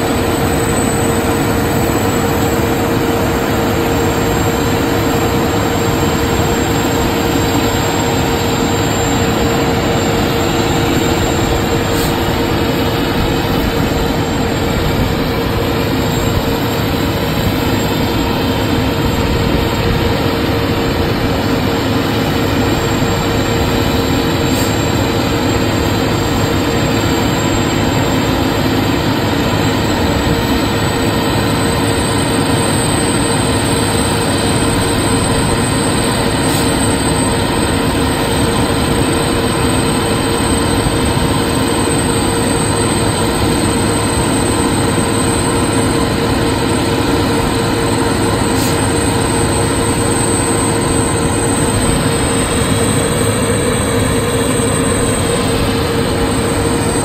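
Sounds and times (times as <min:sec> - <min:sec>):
crane engine droning: 0:00.0 - 0:57.0.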